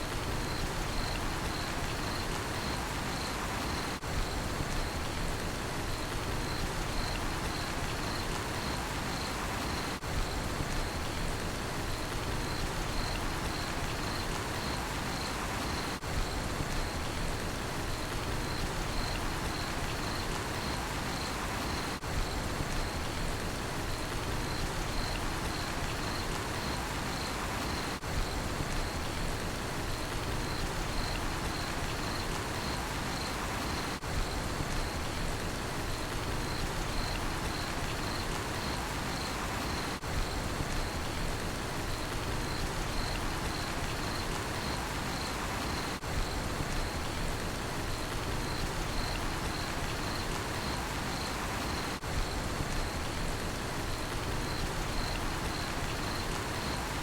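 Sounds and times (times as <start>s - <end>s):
steady rain falling: 0.0s - 57.0s
crickets chirping: 0.2s - 5.2s, 5.9s - 57.0s.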